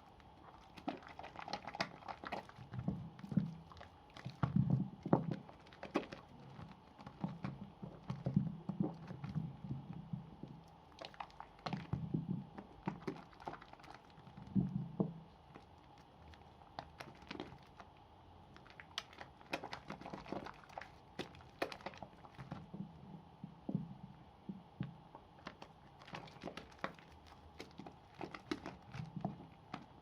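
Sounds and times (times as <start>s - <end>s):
soap lathering squelches: 0.0s - 14.7s, 15.4s - 22.8s, 25.4s - 30.0s.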